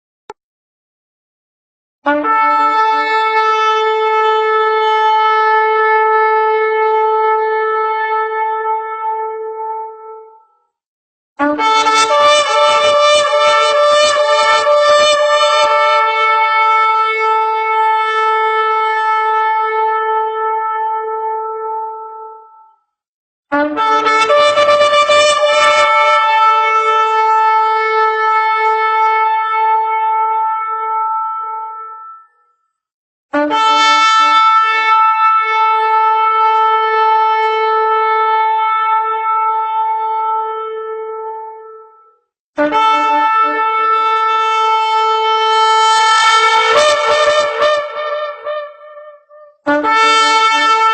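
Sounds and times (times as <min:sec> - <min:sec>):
shofar blast: 0:02.1 - 0:10.3, 0:11.4 - 0:22.1, 0:23.5 - 0:32.3, 0:33.4 - 0:41.9, 0:42.6 - 0:50.9.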